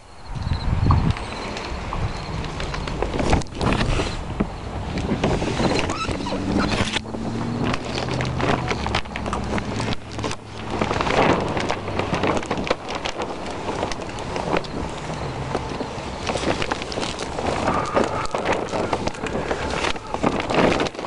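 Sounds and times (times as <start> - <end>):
plastic sheeting rustling: 1.2 - 21.0.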